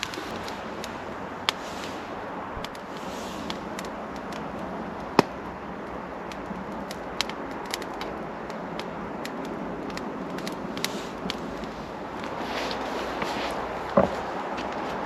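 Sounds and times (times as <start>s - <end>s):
sharp fire pops: 0.0s - 14.8s
steady hiss: 0.0s - 15.0s
wood fire crackling: 0.0s - 15.0s.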